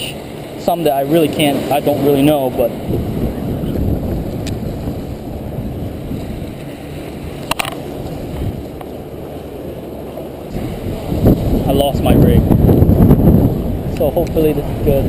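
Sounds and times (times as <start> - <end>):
surf washing against rocks: 0.0 - 15.0
wind buffeting microphone: 0.0 - 15.0.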